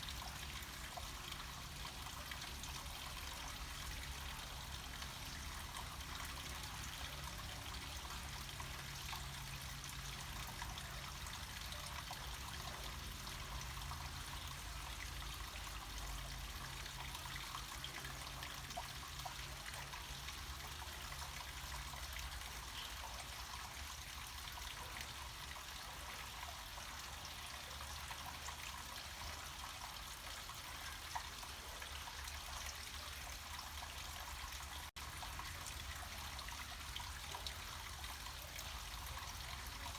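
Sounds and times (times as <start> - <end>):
water flowing down cascade: 0.0 - 39.9.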